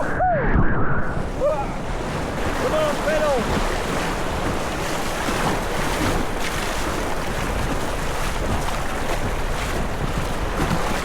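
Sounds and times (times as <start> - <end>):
wind buffeting microphone: 0.0 - 11.0
rushing whitewater: 1.1 - 11.0
water splashing: 1.1 - 11.0.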